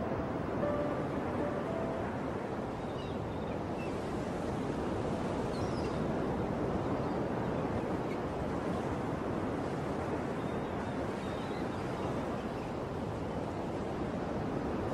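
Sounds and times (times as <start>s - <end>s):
wind: 0.0s - 14.9s.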